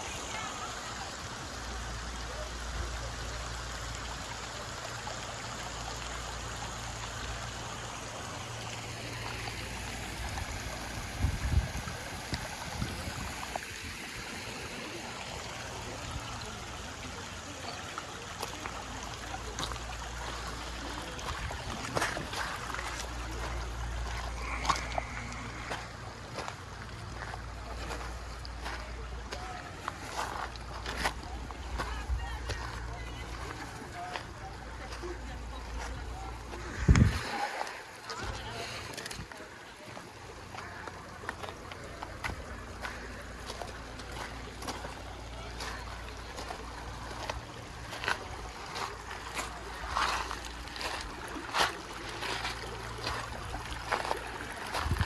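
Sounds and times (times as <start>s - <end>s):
water rushing over gravel: 0.0s - 55.0s.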